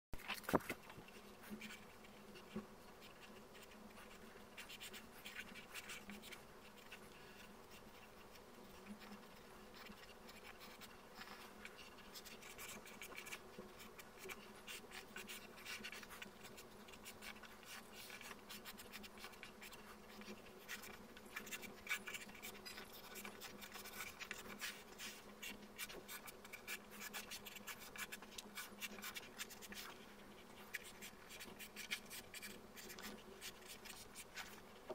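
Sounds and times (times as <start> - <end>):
pencil scratching on paper: 0.6 - 34.9.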